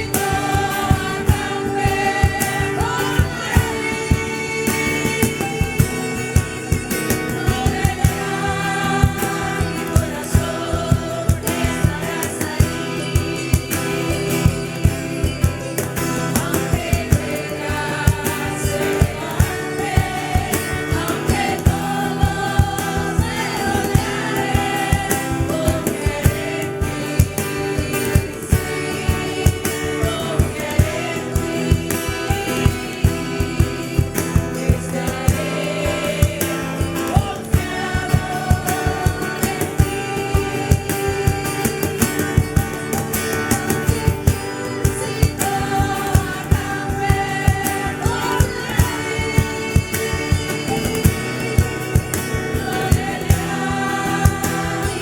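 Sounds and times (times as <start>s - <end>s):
band with steady drum beat: 0.0s - 55.0s
group singing gospel song: 0.0s - 55.0s.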